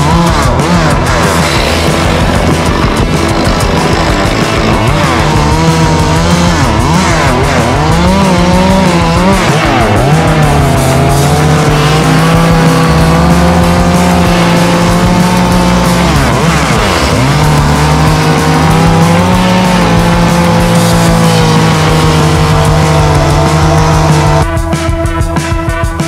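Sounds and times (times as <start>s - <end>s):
chainsaw cutting wood: 0.0s - 24.5s.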